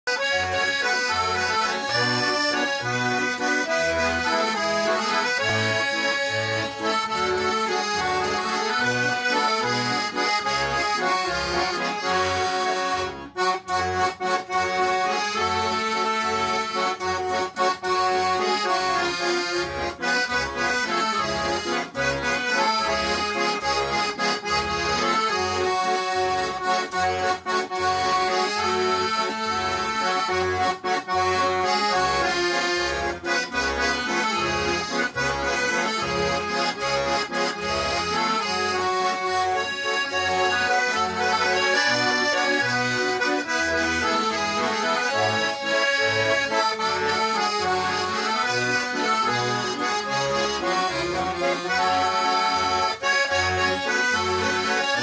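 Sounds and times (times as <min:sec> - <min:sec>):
accordion duet: 0:00.0 - 0:55.0.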